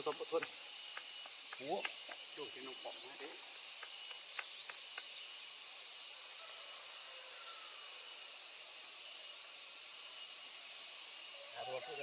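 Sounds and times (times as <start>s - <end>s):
high hiss: 0.0s - 12.0s.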